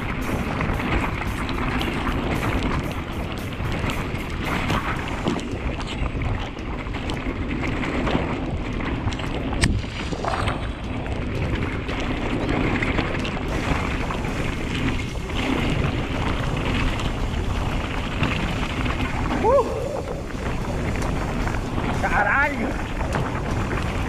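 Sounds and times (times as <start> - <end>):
bike tyres rolling through mud: 0.0 - 24.0
wind buffeting microphone: 0.0 - 24.0.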